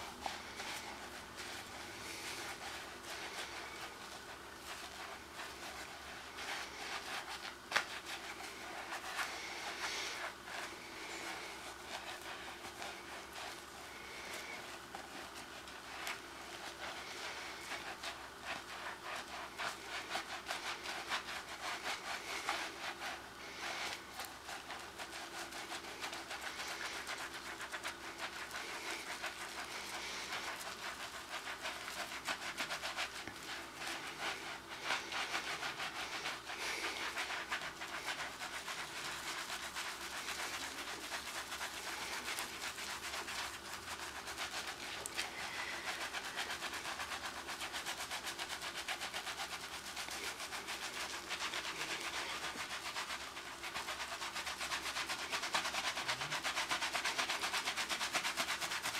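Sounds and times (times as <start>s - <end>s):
hands scrubbing: 0.0s - 58.9s.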